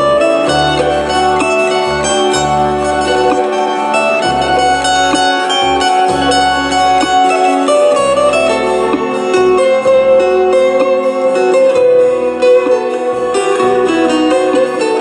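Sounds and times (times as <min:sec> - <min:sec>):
acoustic guitar: 0:00.0 - 0:15.0
low bass notes: 0:00.0 - 0:15.0
piano: 0:00.0 - 0:15.0.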